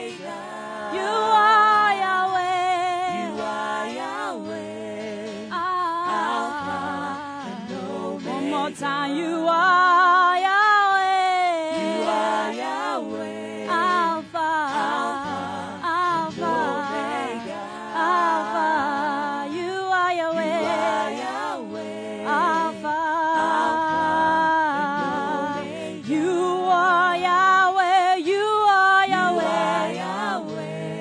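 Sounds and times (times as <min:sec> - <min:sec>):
women singing: 0:00.0 - 0:31.0.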